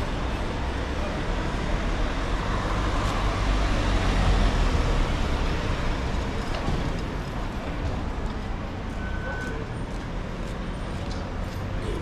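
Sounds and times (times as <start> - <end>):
city street hum: 0.0 - 12.0.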